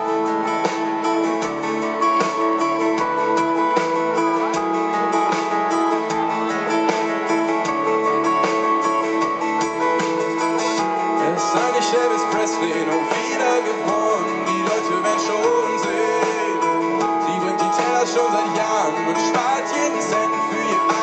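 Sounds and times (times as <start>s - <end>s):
pop-rock band playing live: 0.0s - 21.0s
strummed acoustic guitar: 0.0s - 21.0s.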